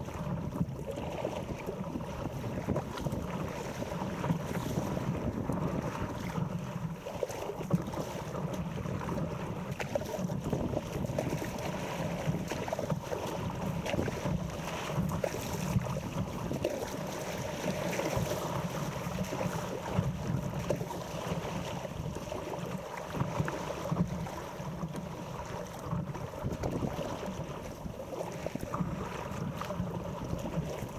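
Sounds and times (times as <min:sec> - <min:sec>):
water sloshing and splashing: 0:00.0 - 0:30.9
wind buffeting microphone: 0:00.0 - 0:30.9.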